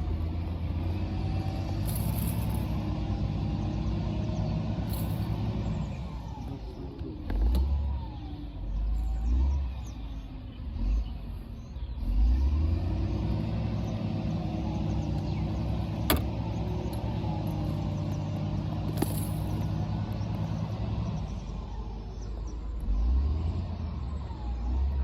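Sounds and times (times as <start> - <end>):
motor engine hum: 0.0 - 25.0.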